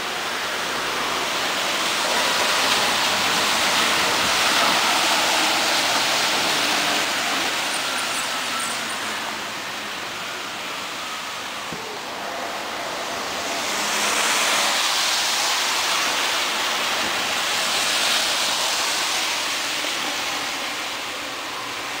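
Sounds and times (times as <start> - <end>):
car tyres hissing on wet road: 0.0 - 22.0.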